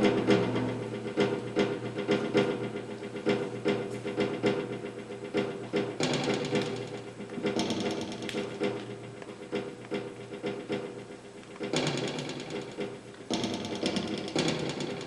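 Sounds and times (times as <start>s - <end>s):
low humming tones: 0.0s - 15.0s
sharp clicks and knocks: 0.0s - 15.0s.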